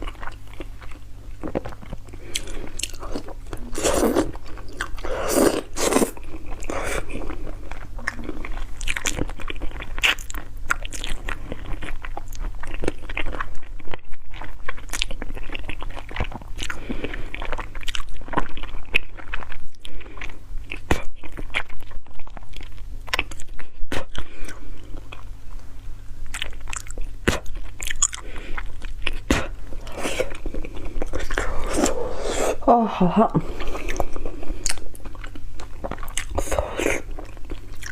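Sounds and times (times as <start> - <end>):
person chewing crunchy food: 0.0 - 32.7, 33.3 - 37.9
faint low hum: 0.0 - 37.9.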